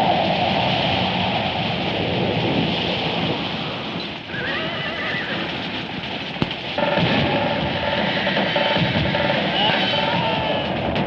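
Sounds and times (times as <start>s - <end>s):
sandstorm wind blowing: 0.0s - 11.0s.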